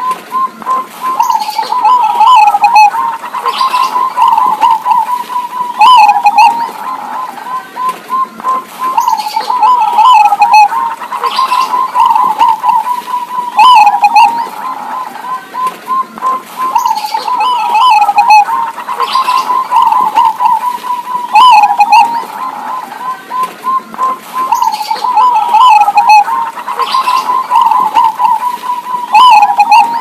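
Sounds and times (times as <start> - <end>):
doves cooing: 0.0 - 30.0.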